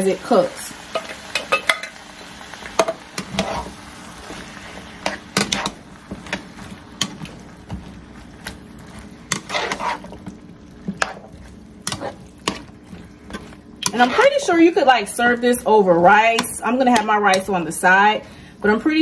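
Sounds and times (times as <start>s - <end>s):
spatula stirring wet vegetables: 0.2s - 19.0s
spatula scraping pan: 2.8s - 18.2s.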